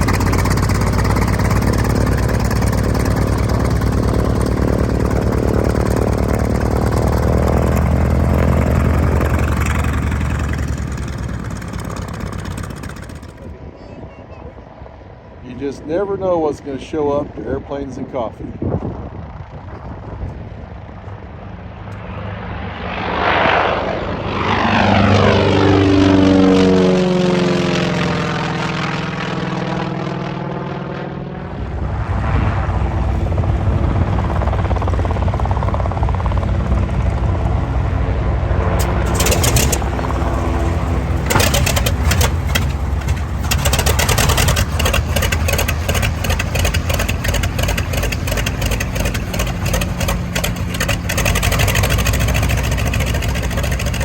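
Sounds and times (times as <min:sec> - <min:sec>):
propeller aircraft engine running: 0:00.0 - 0:54.0
propeller airplane flying past: 0:00.0 - 0:54.0.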